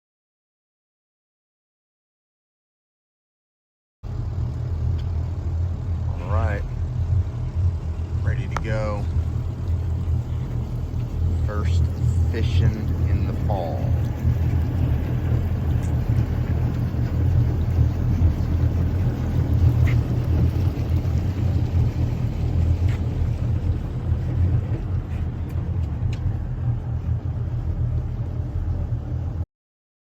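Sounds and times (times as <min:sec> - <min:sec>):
boat engine rumbling: 0:04.0 - 0:29.4.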